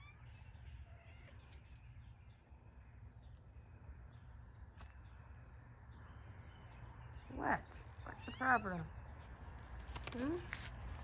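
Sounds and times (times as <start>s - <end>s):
insects trilling: 0.0s - 9.8s.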